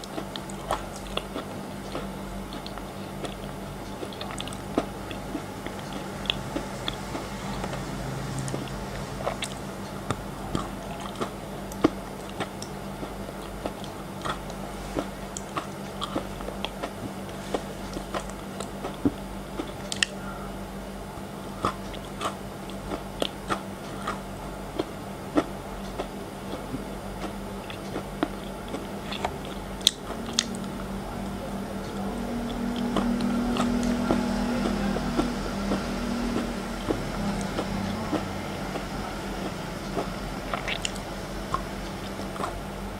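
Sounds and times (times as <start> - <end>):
chewing frozen chocolate crunches: 0.0 - 42.8.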